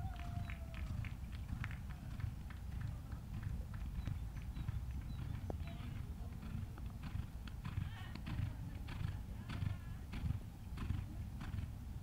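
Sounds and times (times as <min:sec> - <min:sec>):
horse hooves cantering on sand: 0:00.2 - 0:12.0.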